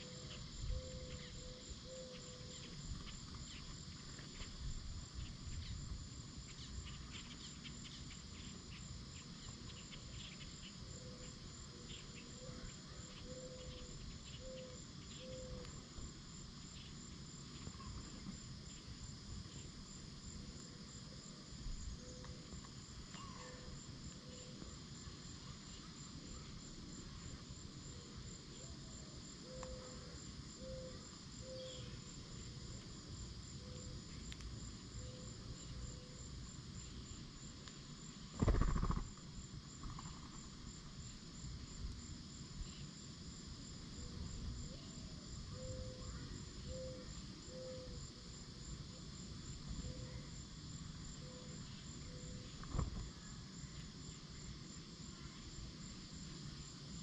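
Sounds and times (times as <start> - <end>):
high-pitched insect chirping: 0.0 - 57.0.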